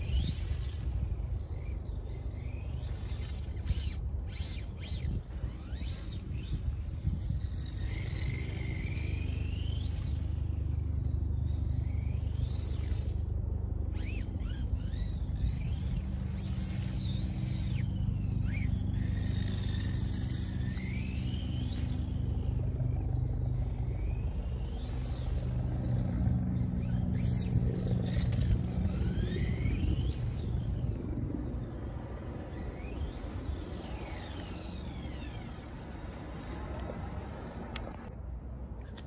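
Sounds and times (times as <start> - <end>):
rc car motor whine: 0.0 - 38.1.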